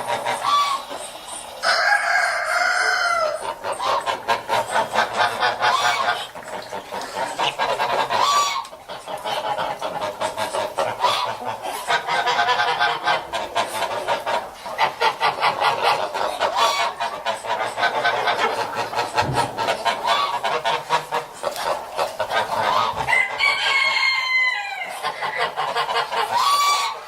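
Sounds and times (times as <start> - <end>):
geese cackling and honking: 0.0 - 27.0.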